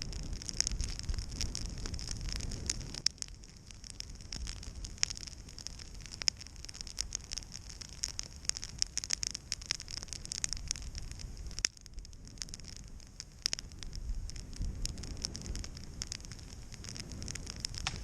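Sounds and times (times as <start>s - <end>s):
campfire crackling and popping: 0.0s - 18.0s
fire hiss: 0.0s - 18.0s.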